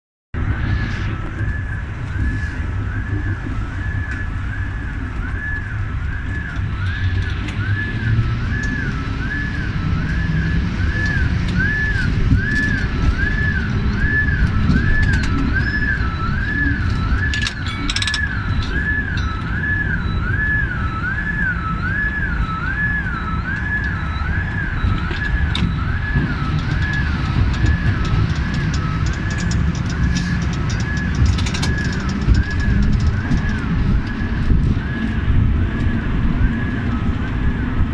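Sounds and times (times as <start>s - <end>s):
two-tone siren: 0.4s - 37.9s
vehicle rumble: 0.4s - 37.9s.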